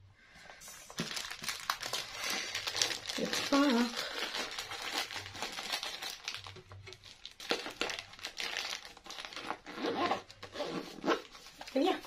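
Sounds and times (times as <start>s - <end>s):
fabric pouch crinkling and rustling: 0.7s - 12.0s.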